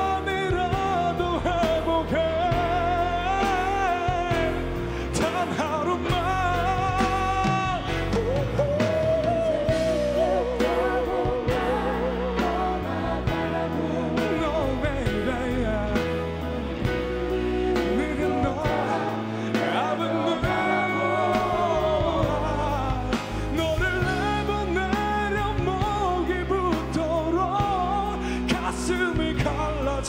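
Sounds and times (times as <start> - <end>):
man singing with vibrato: 0.0 - 30.0
pop ballad with band: 0.0 - 30.0.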